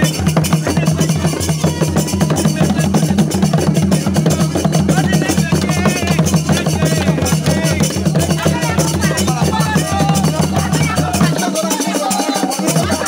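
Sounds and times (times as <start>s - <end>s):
fast dense drumming: 0.0s - 13.0s
voices calling out: 0.0s - 13.0s.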